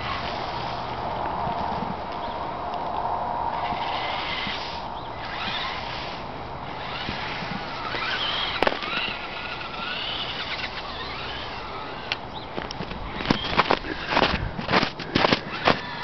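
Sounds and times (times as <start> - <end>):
electric motor and gears whining: 0.0 - 16.0.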